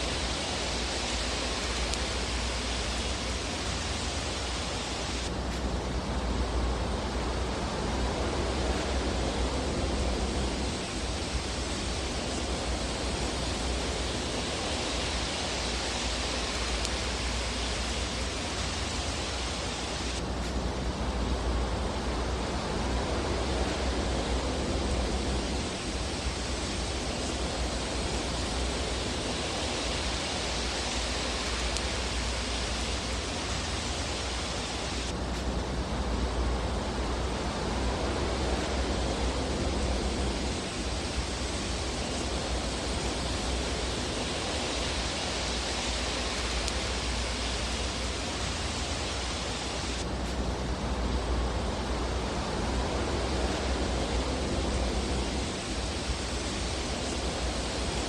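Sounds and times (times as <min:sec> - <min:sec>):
fireplace fire hissing: 0:00.0 - 0:58.0.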